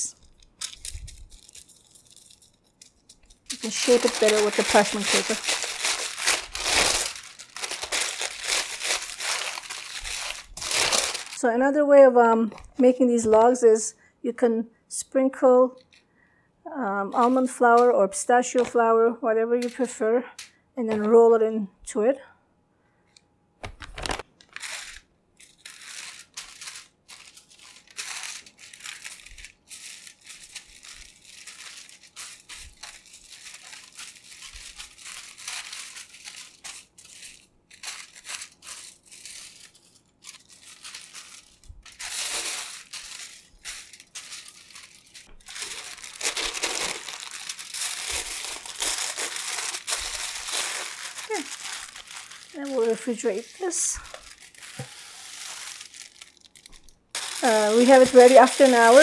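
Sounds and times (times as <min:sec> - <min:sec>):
paper and foil crinkling: 0:00.0 - 0:11.7, 0:17.1 - 0:18.9, 0:23.6 - 0:59.0.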